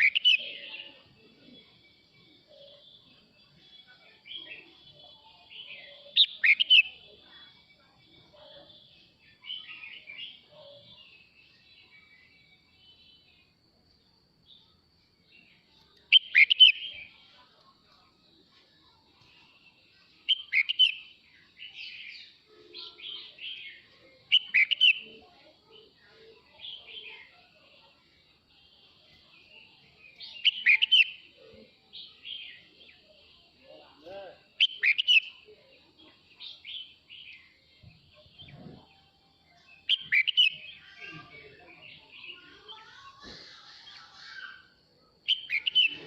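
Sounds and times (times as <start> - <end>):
bulbul singing: 0.0 - 7.4, 14.4 - 18.1, 19.2 - 43.4, 44.1 - 46.0.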